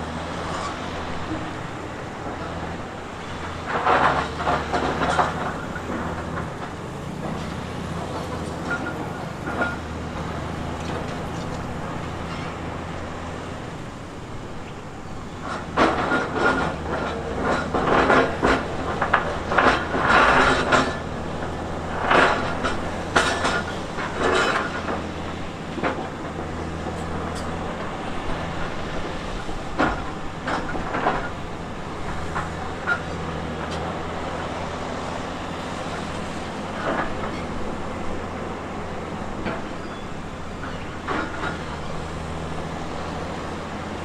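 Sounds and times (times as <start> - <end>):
diesel engine running: 0.0 - 44.0
steel tracks clanking on rock: 0.0 - 44.0.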